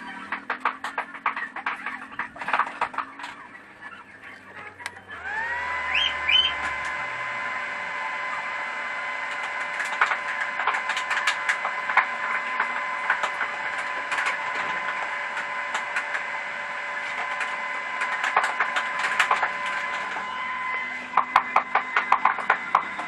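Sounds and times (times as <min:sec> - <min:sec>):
high machine whine: 0:00.0 - 0:23.0.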